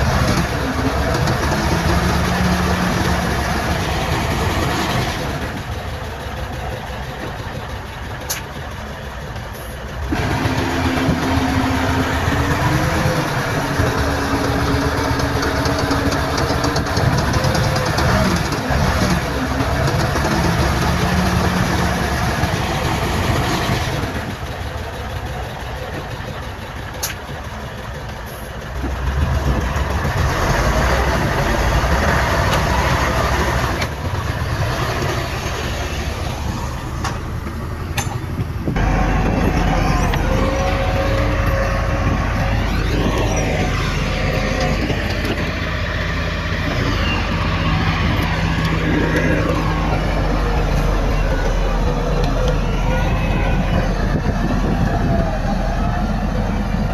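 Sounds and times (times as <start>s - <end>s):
earthmoving machinery diesel engines: 0.0s - 56.9s.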